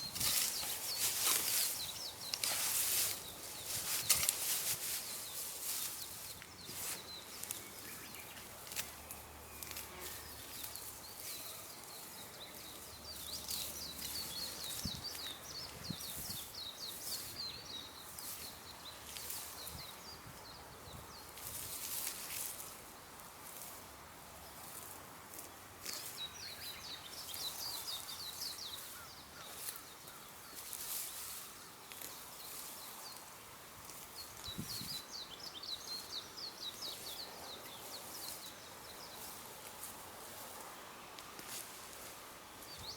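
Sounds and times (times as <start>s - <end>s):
birds chirping: 0.0s - 21.6s, 25.5s - 42.9s
rustling through grass: 0.0s - 42.9s.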